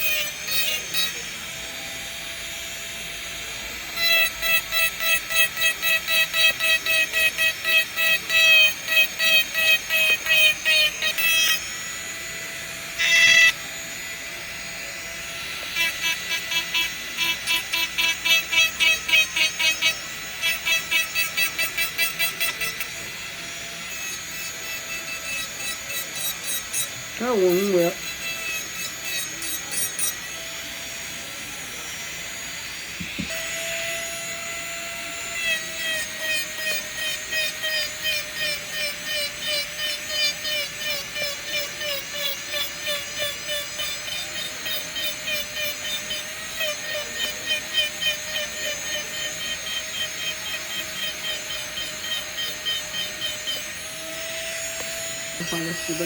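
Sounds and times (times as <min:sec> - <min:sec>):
dental micromotor whining: 0:00.0 - 0:56.0.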